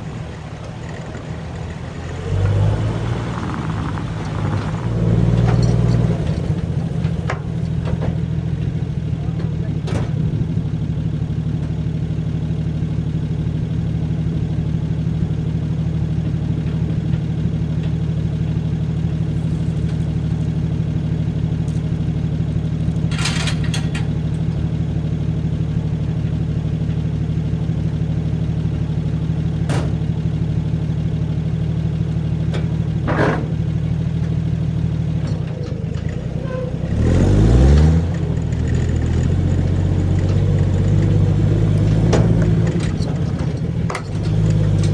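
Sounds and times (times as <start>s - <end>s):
engine running: 0.0s - 44.9s.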